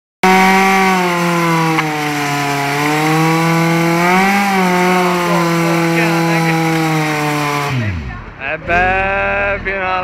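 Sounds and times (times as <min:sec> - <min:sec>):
motorcycle engine at high revs: 0:00.2 - 0:10.0.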